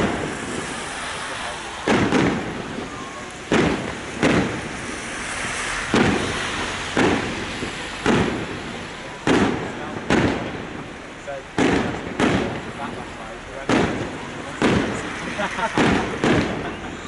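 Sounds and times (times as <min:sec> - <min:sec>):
firework bangs: 0:00.0 - 0:17.0.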